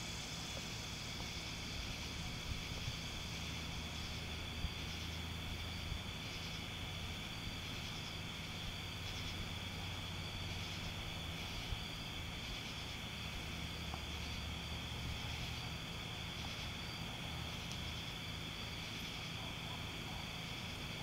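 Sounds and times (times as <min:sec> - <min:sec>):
insects chorus: 0:00.0 - 0:21.0
low steady hum: 0:00.0 - 0:21.0.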